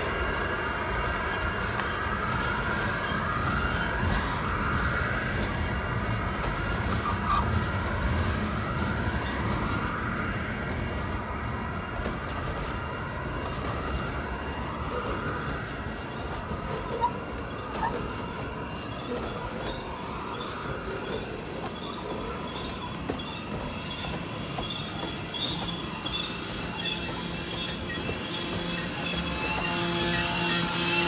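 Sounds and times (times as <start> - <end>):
metal wheels rumbling on rail: 0.0 - 31.0
wheel clicks over rail joints: 0.0 - 31.0.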